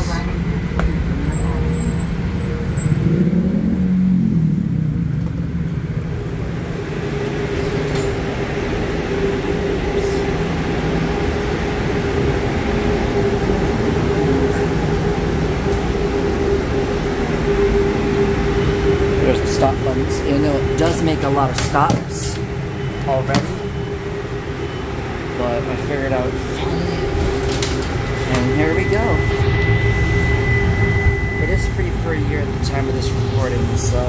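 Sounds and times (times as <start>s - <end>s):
steady humming tone: 0.0s - 34.0s
streetcar low rumble: 0.0s - 34.0s.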